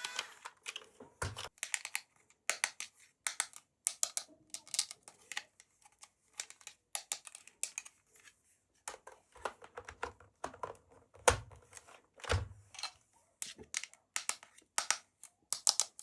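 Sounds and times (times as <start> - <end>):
toy packaging clicks and taps: 0.1 - 8.0, 8.9 - 11.9, 12.8 - 16.0.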